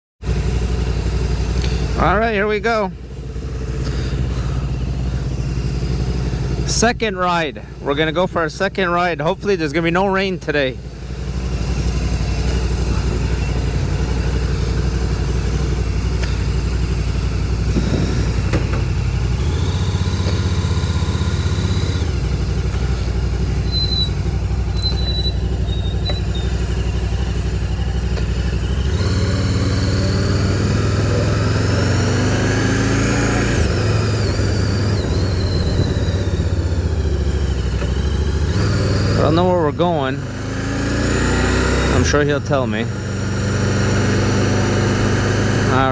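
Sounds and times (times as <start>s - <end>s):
motorcycle engine running: 0.2s - 45.9s.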